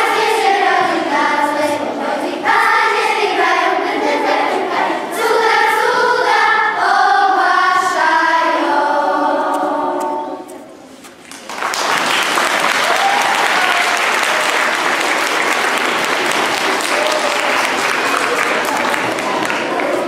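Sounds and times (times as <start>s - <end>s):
children's choir singing a carol: 0.0s - 11.1s, 14.8s - 20.0s.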